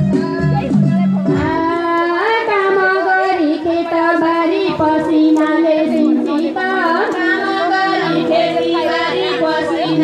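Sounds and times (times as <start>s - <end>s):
musical accompaniment: 0.0s - 10.0s
women singing folk song: 1.4s - 10.0s.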